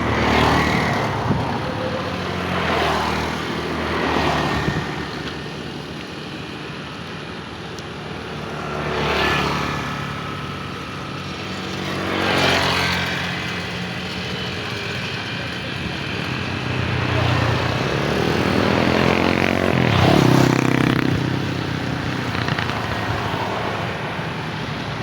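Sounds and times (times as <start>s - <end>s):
vehicles passing by: 0.0s - 25.0s.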